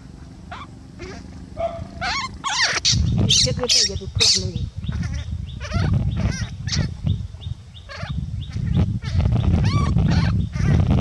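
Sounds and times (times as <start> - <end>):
baby monkey squealing cries: 0.5 - 7.0, 7.8 - 10.8.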